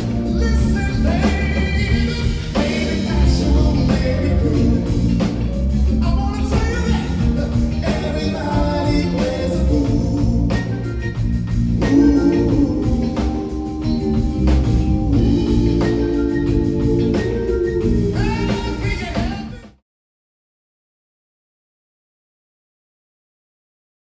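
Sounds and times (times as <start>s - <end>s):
soul music with singing: 0.0s - 19.8s.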